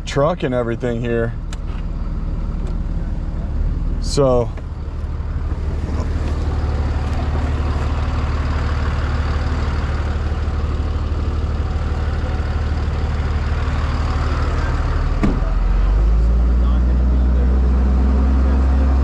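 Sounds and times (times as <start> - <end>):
truck engine humming: 0.0 - 19.0.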